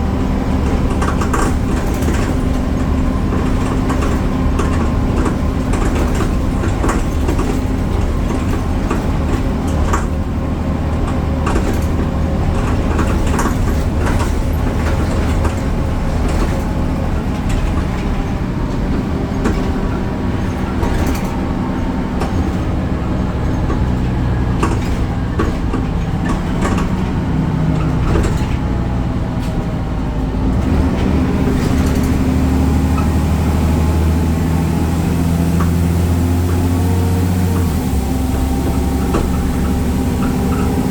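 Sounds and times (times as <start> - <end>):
bus diesel engine droning: 0.0 - 40.9
rattles and knocks: 0.0 - 40.9.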